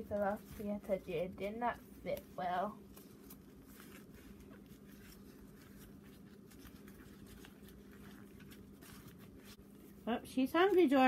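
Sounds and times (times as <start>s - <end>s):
hands rustling plastic doll: 0.0s - 11.0s
steady low hum: 0.0s - 11.0s.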